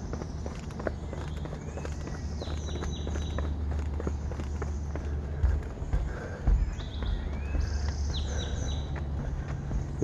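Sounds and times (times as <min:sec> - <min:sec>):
footsteps on wooden deck: 0:00.0 - 0:10.0.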